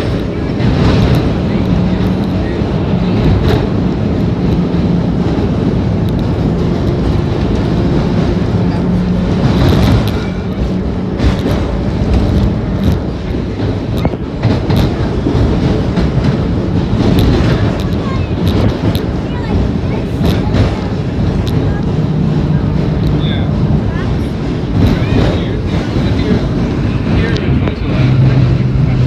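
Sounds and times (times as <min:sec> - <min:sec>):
subway train rumbling in tunnel: 0:00.0 - 0:29.0
wheels clicking over rail joints: 0:00.0 - 0:29.0.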